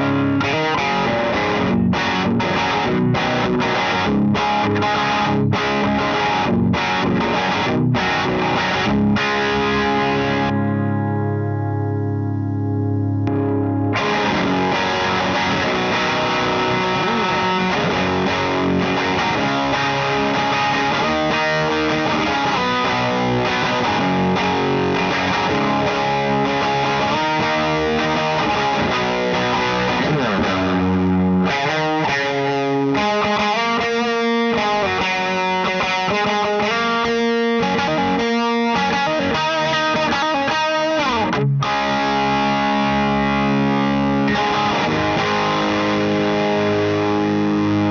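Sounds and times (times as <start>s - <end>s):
electric guitar playing: 0.0s - 47.9s.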